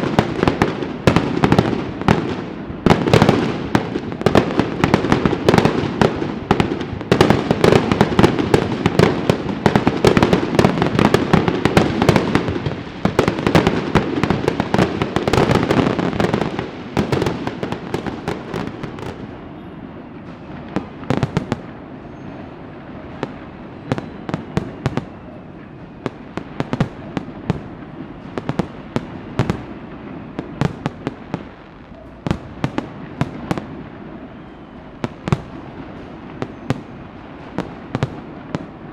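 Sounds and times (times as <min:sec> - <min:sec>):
firecrackers cracking: 0:00.0 - 0:38.9.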